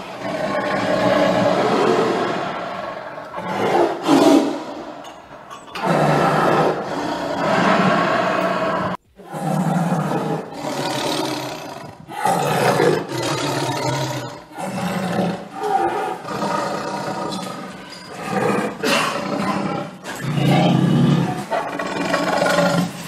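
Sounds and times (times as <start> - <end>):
big cat roaring: 0.0 - 5.0, 5.8 - 23.0.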